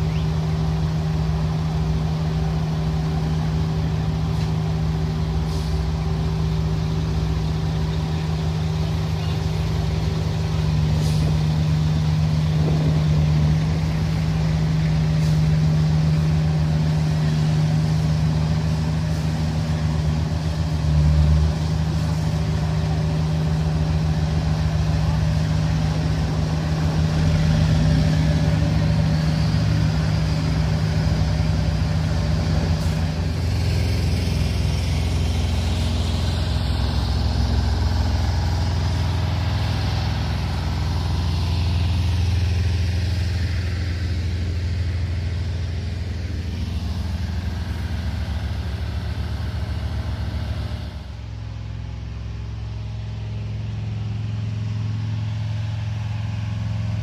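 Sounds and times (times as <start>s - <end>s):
paving machine engines droning: 0.0s - 57.0s.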